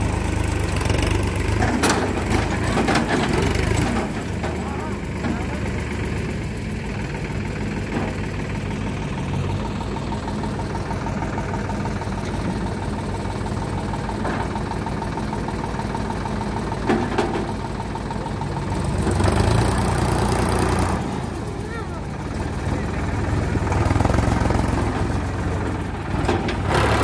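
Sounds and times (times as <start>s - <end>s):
tractor diesel engine clattering: 0.0s - 27.0s.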